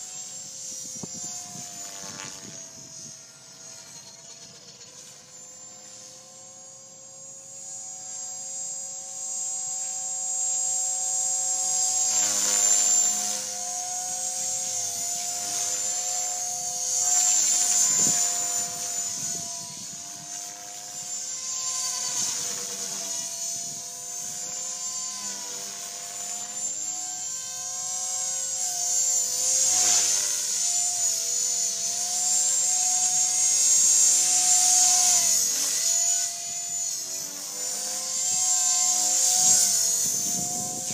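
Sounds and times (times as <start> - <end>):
electric motor whine: 0.0 - 40.9
rotor humming: 0.0 - 40.9.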